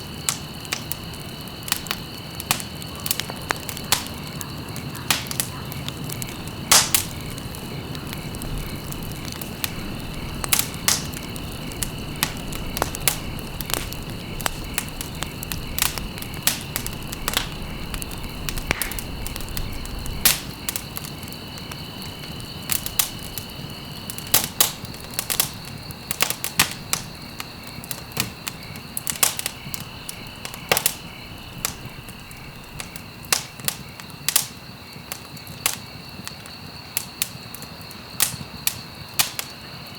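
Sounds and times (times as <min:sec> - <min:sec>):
crackles and pops of burning wood: 0:00.0 - 0:39.9
low rumble of flames: 0:00.0 - 0:39.9.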